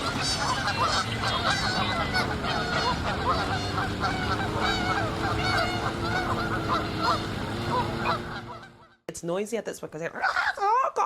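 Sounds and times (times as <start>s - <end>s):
geese honking: 0.0s - 9.0s.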